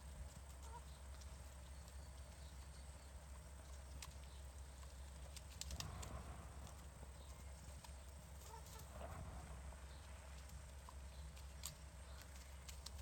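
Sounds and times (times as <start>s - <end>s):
hens pecking and rustling: 0.0s - 13.0s.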